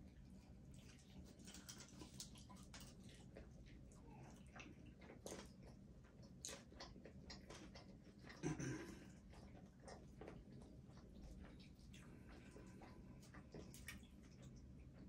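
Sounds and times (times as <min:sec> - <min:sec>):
person chewing: 0:00.7 - 0:15.0.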